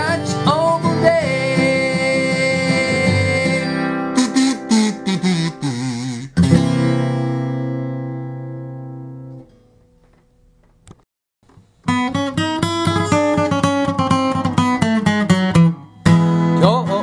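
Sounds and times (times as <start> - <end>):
acoustic guitar strumming: 0.0 - 10.3, 11.5 - 17.0.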